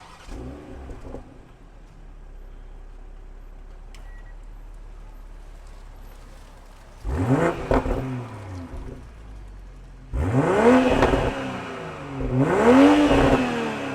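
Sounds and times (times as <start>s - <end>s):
car engine idling and revving: 0.0s - 13.9s.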